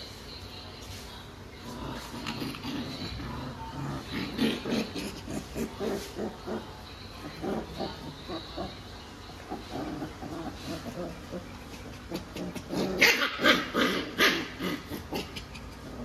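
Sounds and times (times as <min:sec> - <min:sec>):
puppies grunting and growling: 0:01.6 - 0:16.0.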